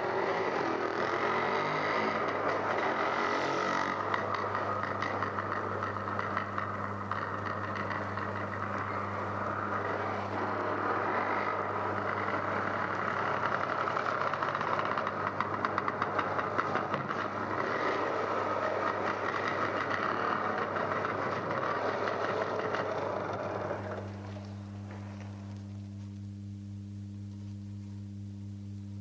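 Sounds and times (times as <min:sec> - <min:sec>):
motorcycle engine running: 0:00.0 - 0:29.0
low hum: 0:03.9 - 0:21.6, 0:22.5 - 0:29.0.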